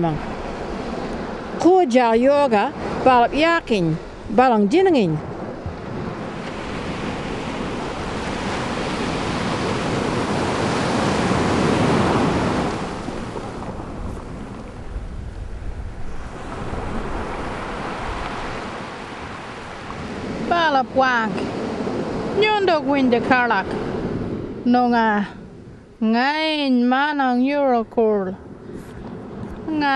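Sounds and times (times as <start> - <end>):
surf washing onto beach: 0.0 - 24.7
wind rumble on microphone: 0.0 - 29.9.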